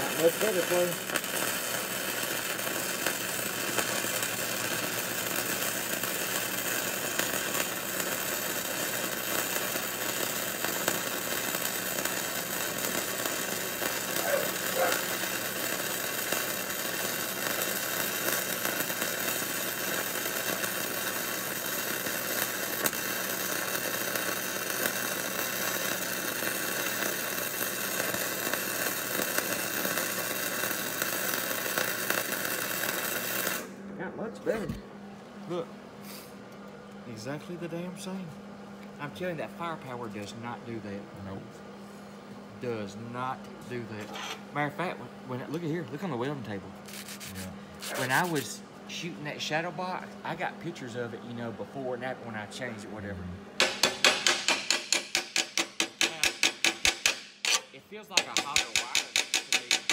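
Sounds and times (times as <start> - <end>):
welding arc sizzling: 0.0 - 34.8, 42.6 - 59.9.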